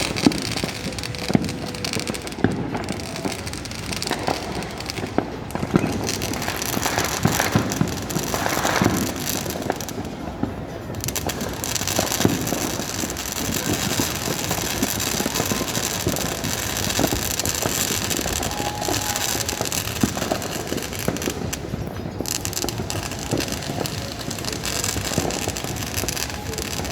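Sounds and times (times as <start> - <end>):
fireworks crackling and popping: 0.0 - 26.9.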